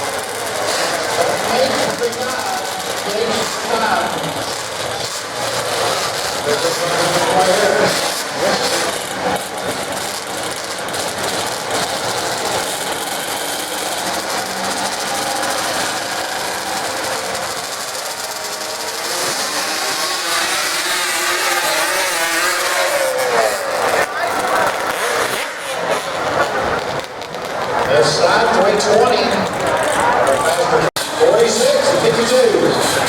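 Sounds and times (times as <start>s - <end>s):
racing engines revving: 0.0s - 33.0s.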